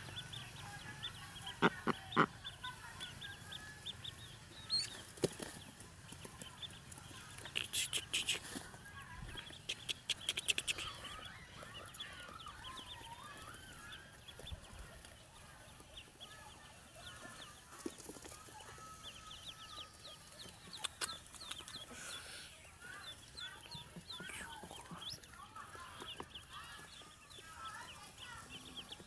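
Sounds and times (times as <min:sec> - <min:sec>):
ducklings peeping: 0:00.0 - 0:29.0.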